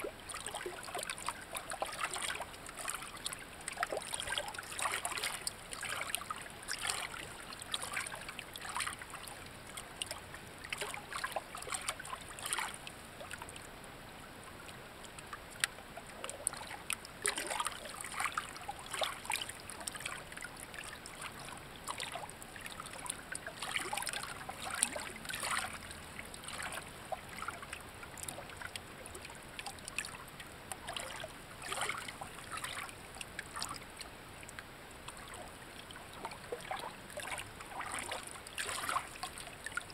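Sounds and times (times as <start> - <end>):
shallow water trickling: 0.0 - 39.9
small water splashes: 0.0 - 39.9.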